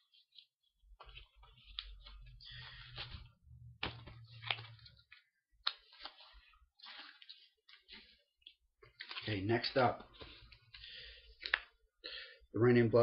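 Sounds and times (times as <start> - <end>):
record sleeves rustling and sliding: 0.0 - 11.7.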